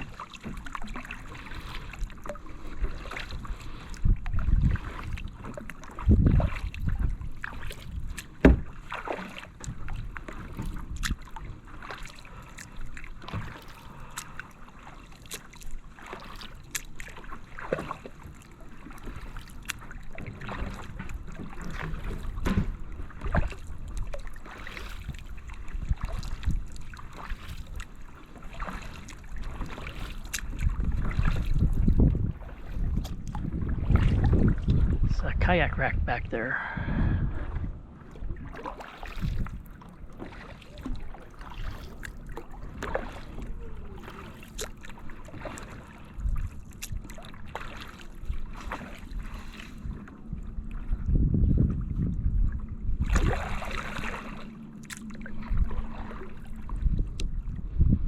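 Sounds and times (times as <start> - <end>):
paddle splashes and drips: 0.0 - 34.9, 36.6 - 58.0.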